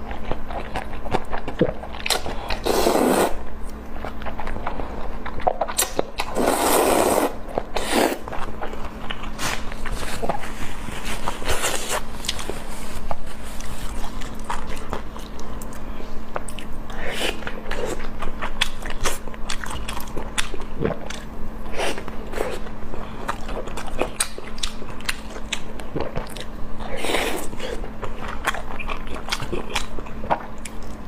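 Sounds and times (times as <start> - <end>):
biting and chewing: 0.0 - 2.9, 3.6 - 21.3, 22.0 - 31.0.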